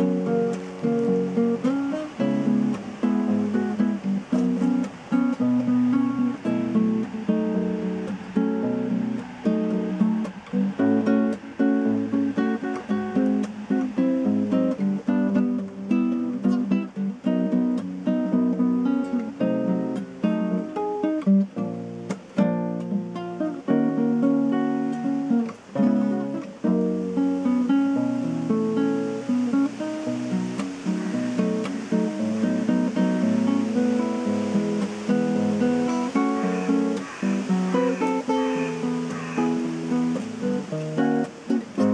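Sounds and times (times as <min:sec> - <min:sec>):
fingerstyle acoustic guitar: 0:00.0 - 0:41.9.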